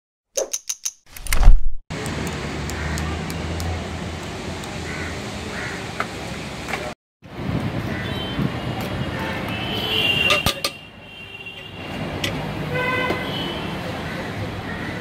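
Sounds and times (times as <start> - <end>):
low traffic hum: 1.9 - 15.0.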